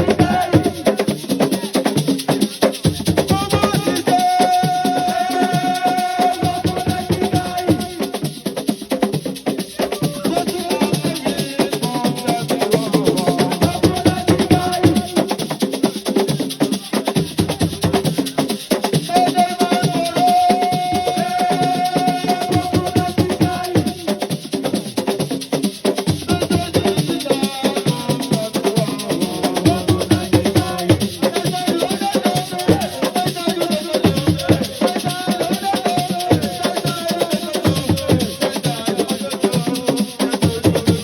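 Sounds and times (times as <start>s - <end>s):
fast percussion drumming: 0.0s - 41.0s
shakers: 0.0s - 41.0s.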